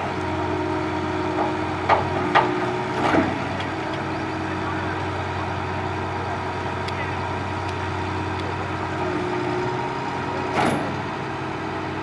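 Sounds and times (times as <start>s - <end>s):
drilling rig engine hum: 0.0s - 12.0s.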